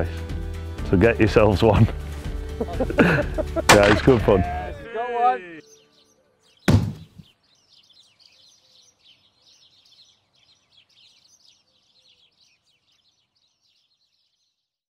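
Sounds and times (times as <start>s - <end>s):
birds chirping: 1.6s - 14.8s.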